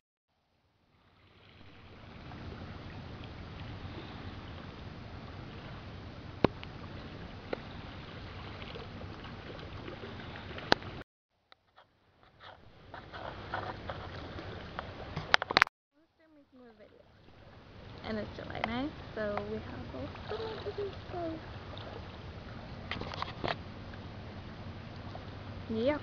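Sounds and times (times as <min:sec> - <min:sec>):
wind: 0:00.3 - 0:26.0
calm sea water on rocks: 0:00.5 - 0:11.0, 0:12.0 - 0:15.7, 0:16.4 - 0:26.0.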